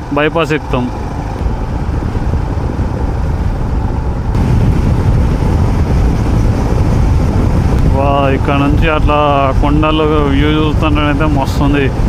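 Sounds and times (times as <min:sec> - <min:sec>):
motorcycle engine: 0:00.0 - 0:09.7
wind rushing over microphone: 0:00.0 - 0:12.0.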